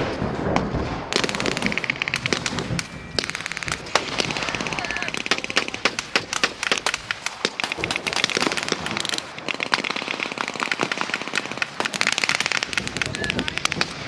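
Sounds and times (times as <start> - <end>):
machine gun bursts: 1.1 - 13.9.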